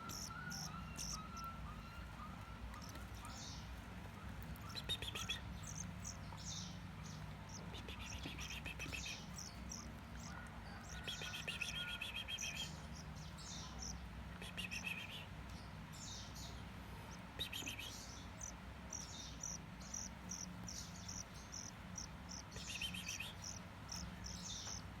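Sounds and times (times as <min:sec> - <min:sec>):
finch singing with trills: 0:00.0 - 0:25.0
steady low hum: 0:00.0 - 0:25.0.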